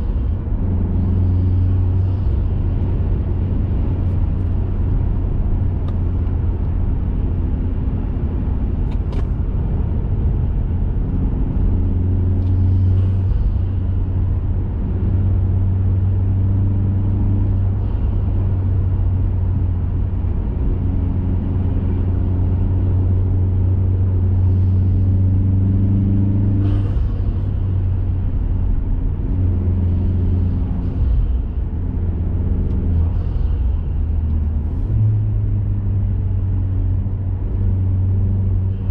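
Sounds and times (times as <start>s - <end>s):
car engine droning while driving: 0.0s - 38.9s.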